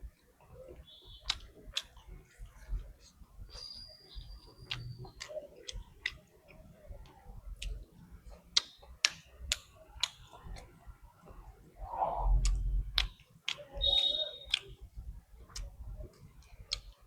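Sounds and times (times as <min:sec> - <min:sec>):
mouth chewing: 0:00.4 - 0:11.5, 0:12.2 - 0:17.0.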